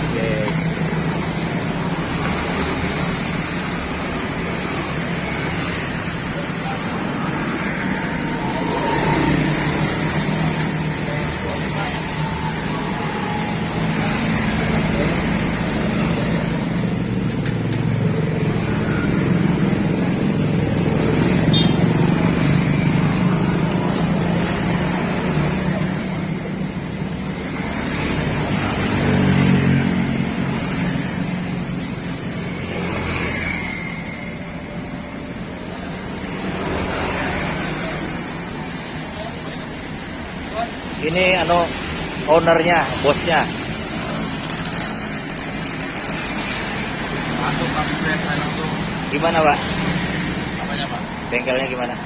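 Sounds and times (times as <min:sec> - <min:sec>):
traffic noise: 0:00.0 - 0:52.0
vehicle engines running: 0:00.0 - 0:52.0.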